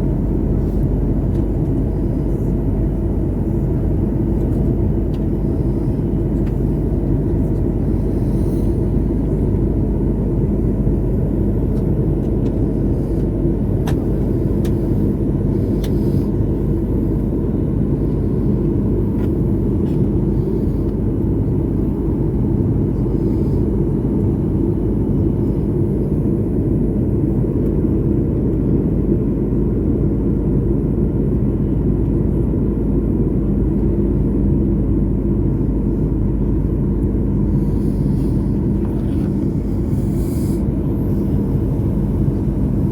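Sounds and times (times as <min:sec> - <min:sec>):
aircraft engines and rushing air: 0:00.0 - 0:42.9
faint steady hum: 0:00.0 - 0:42.9.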